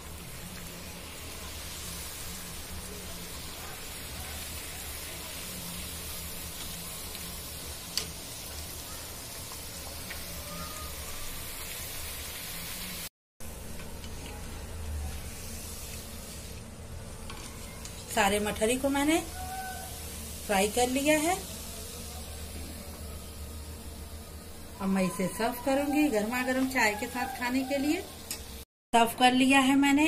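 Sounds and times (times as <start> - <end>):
food deep-frying in hot oil: 0.0 - 28.6.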